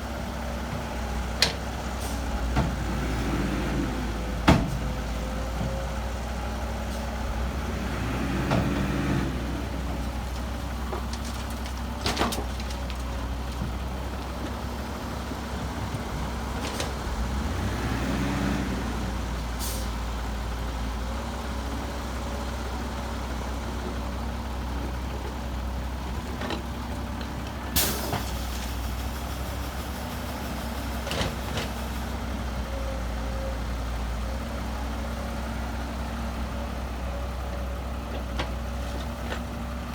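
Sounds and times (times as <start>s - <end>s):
diesel machinery running: 0.0s - 39.9s.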